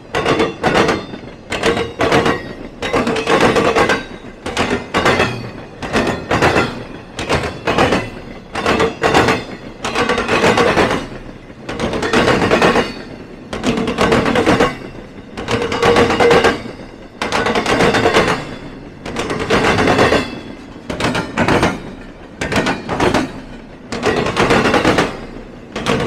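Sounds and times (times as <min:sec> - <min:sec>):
train wheels clanking over crossing: 0:00.0 - 0:26.0.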